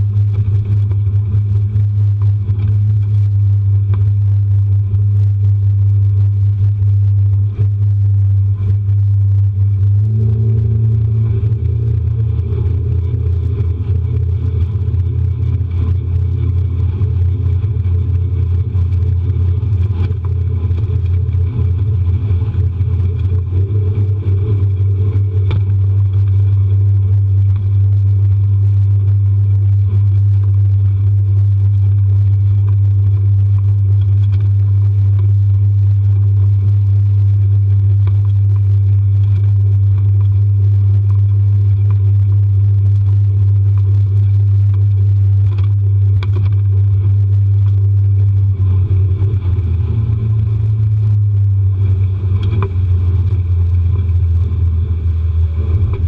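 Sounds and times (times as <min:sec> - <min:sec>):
outboard motor droning: 0:00.0 - 0:56.0.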